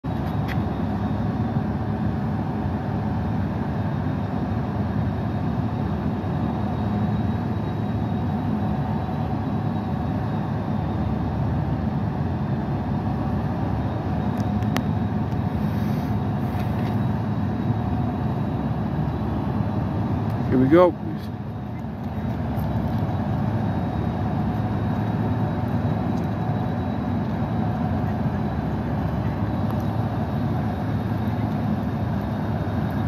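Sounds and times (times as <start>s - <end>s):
diesel locomotive engine rumbling: 0.0s - 33.0s.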